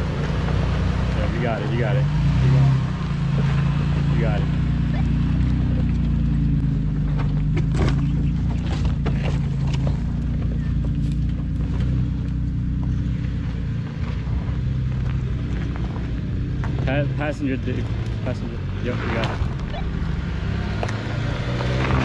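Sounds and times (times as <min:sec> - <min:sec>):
suv engines at low revs: 0:00.0 - 0:22.0.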